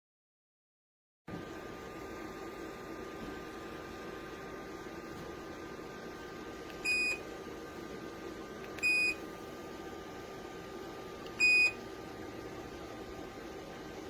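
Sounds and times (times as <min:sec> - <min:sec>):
heater fan hissing: 0:01.3 - 0:14.0.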